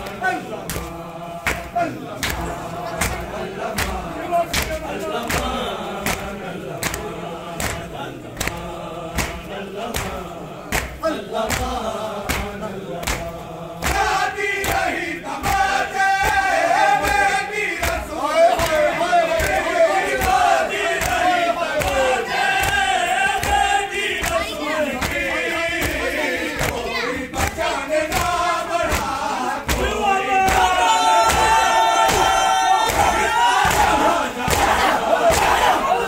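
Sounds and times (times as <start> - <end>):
hands slapping chests: 0.0 - 36.0
men chanting: 0.0 - 36.0.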